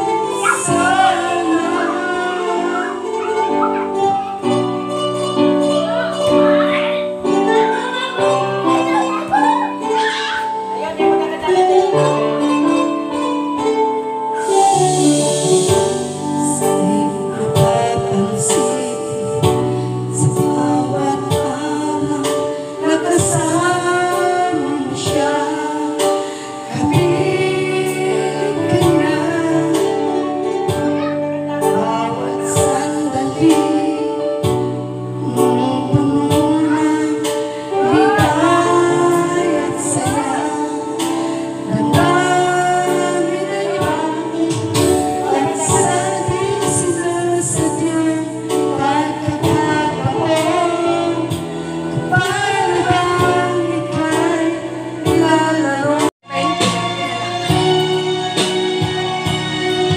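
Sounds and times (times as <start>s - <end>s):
karaoke backing track: 0.0s - 59.9s
woman singing into microphone: 0.0s - 59.9s.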